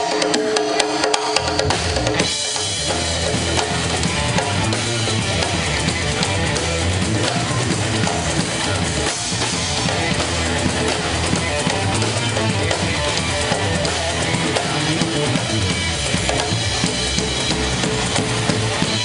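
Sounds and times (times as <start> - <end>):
live band playing: 0.0 - 19.0
steady bass line: 1.5 - 19.0.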